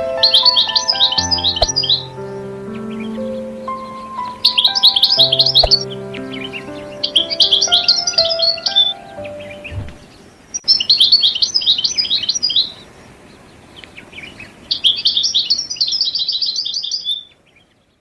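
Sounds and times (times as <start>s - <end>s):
small songbird twittering: 0.2s - 17.8s.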